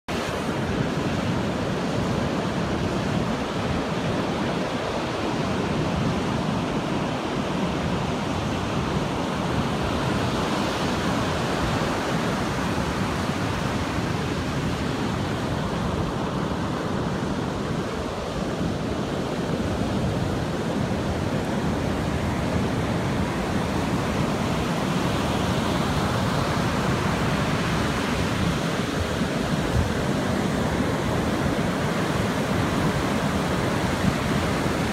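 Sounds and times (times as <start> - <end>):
waves breaking on beach: 0.1 - 34.9.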